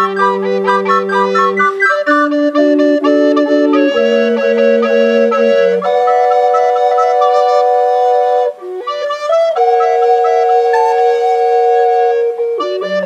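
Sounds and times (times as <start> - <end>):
recorder ensemble playing chords: 0.0 - 13.0.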